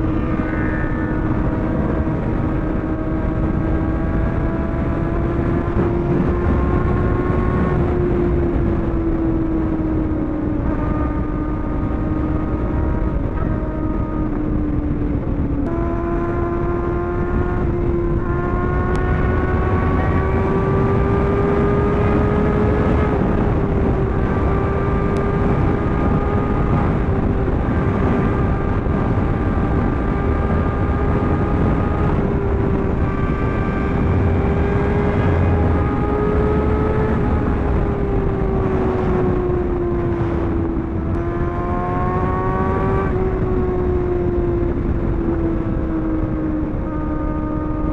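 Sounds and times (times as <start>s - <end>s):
low wind rumble: 0.0s - 47.9s
sport bike engine cruising: 0.0s - 47.9s.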